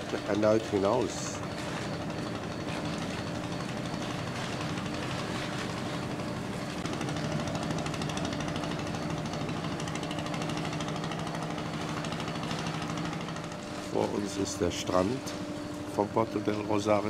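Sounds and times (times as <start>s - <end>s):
fast pulsing rattle: 0.0s - 17.0s
ship machinery drone: 0.0s - 17.0s.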